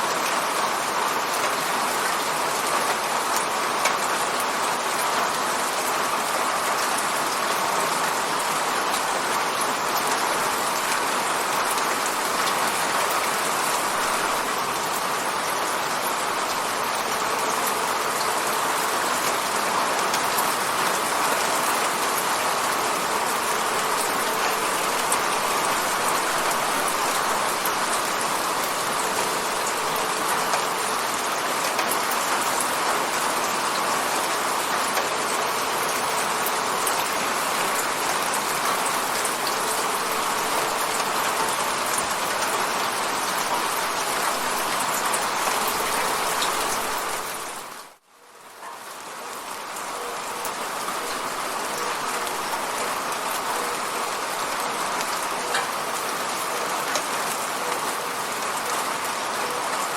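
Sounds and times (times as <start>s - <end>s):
rain hitting a window: 0.0s - 59.9s.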